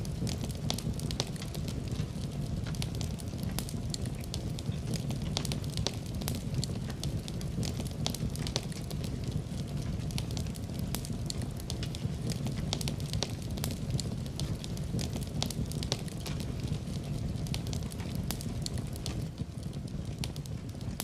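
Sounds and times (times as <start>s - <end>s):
burning logs crackling and popping: 0.0s - 21.0s
flames rumbling: 0.0s - 21.0s.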